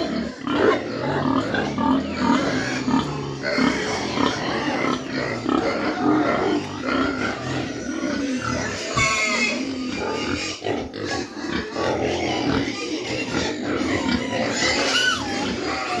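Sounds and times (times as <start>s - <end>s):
pigs grunting and squealing: 0.0s - 16.0s.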